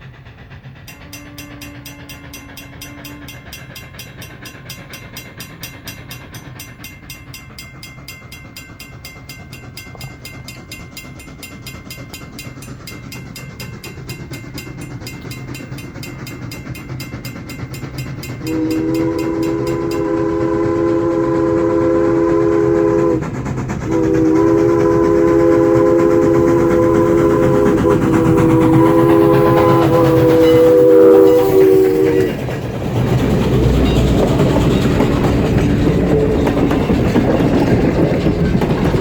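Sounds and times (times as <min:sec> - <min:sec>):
steam train rumbling: 0:00.0 - 0:39.0.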